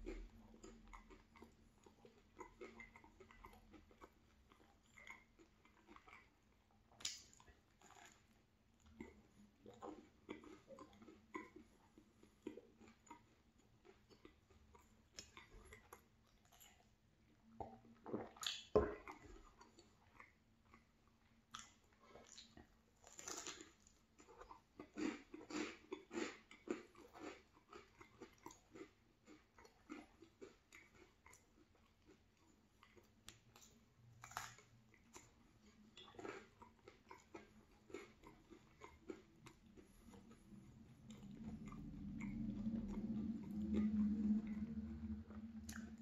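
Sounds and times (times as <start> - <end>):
chewing and biting bagel: 0.0 - 46.0.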